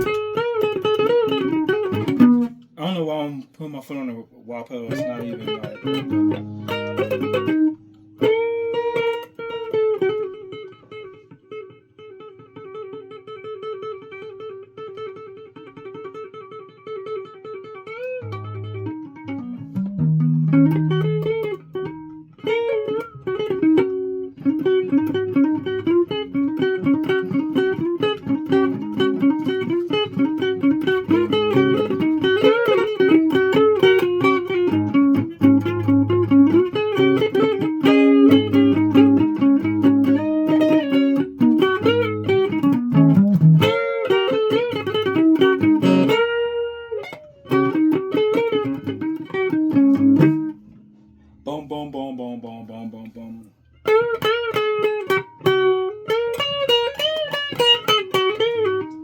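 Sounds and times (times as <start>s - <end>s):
guitar playing: 0.0s - 59.0s.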